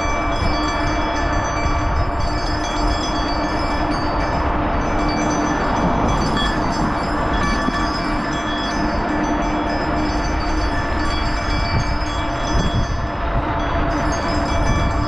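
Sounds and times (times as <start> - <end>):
road rumble: 0.0 - 15.0
wind buffeting: 0.0 - 15.0.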